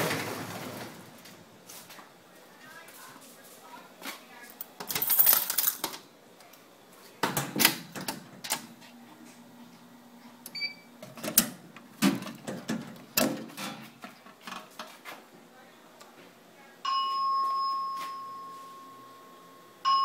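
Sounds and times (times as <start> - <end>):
faint steady hum: 0.1 - 20.0.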